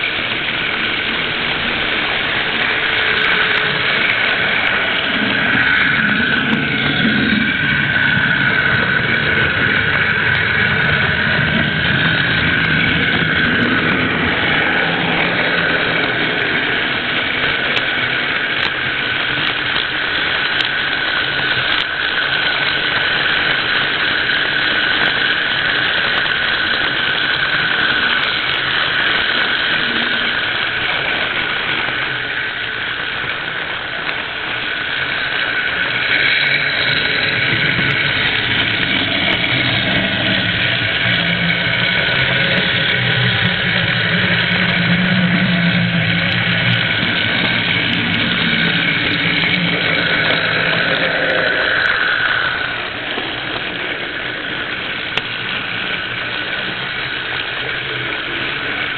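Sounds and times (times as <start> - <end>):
faint clicks: 0.0 - 58.9
high whine: 0.0 - 58.9
model train motor hum: 0.0 - 58.9.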